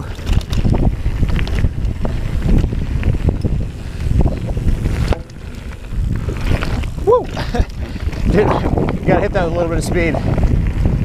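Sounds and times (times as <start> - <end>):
mountain bike rattling on dirt: 0.0 - 11.0
wind buffeting microphone: 0.0 - 11.0.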